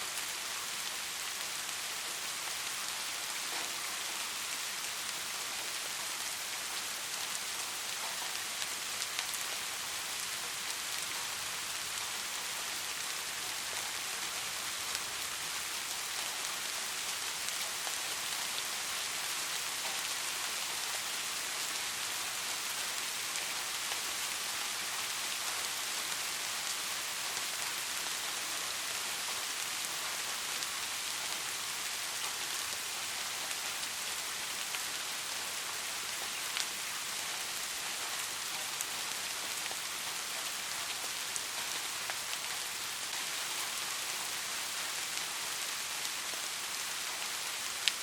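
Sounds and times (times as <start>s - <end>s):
steady rainfall: 0.0s - 48.0s.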